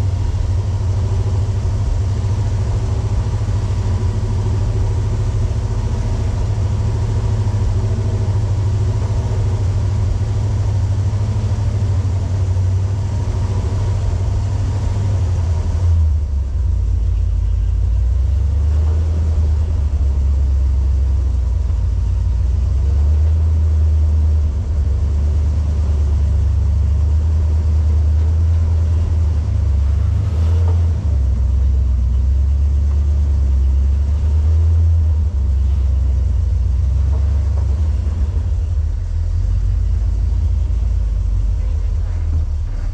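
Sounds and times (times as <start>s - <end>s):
off-road vehicle engine rumbling: 0.0s - 42.9s.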